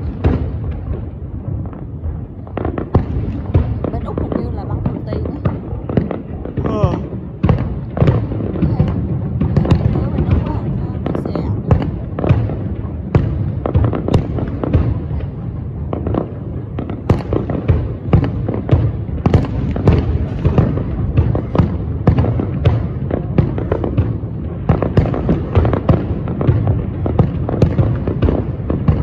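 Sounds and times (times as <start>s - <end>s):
continuous low rumble: 0.0s - 29.0s.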